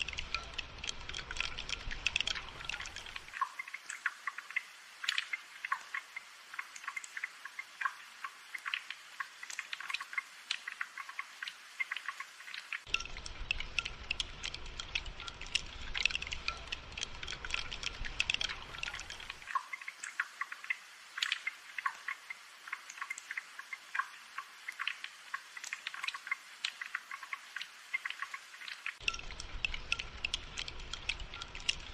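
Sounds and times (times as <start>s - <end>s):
gentle steady rain: 0.0s - 31.9s
light drips and ticks: 0.0s - 31.9s.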